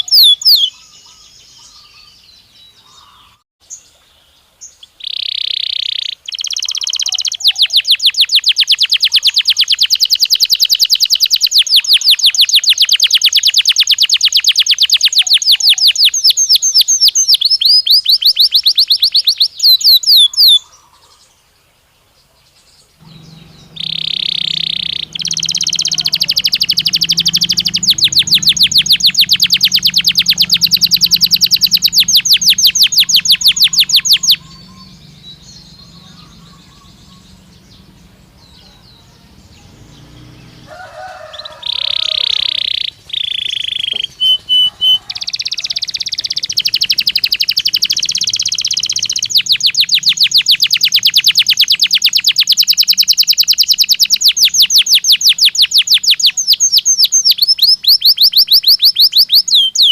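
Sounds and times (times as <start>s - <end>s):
canary singing rapid trills: 0.0s - 3.8s, 4.6s - 21.0s, 23.0s - 59.9s.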